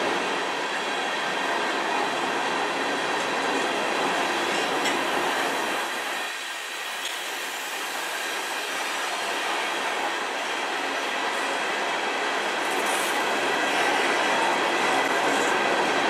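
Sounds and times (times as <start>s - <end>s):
steel wheels on rail: 0.0s - 16.0s.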